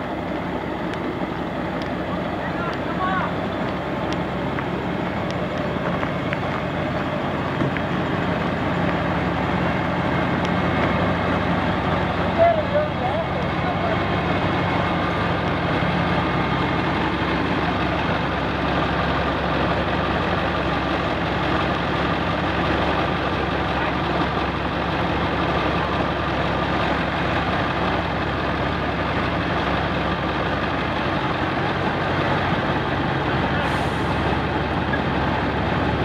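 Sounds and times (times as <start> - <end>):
heavy vehicle engine idling: 0.0 - 36.0.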